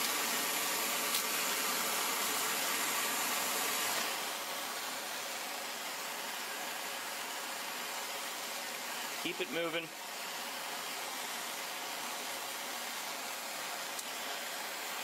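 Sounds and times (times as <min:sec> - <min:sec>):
gas torch hissing: 0:00.0 - 0:15.0.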